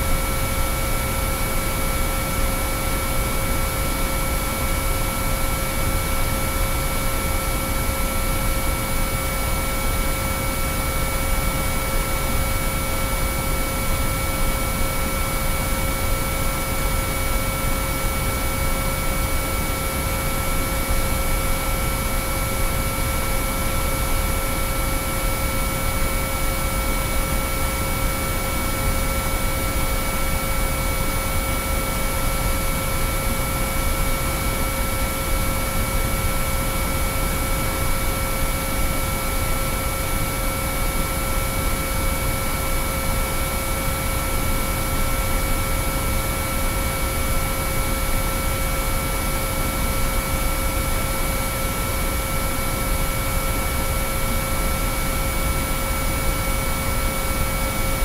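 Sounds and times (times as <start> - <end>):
steady sine-wave tones: 0.0 - 58.0.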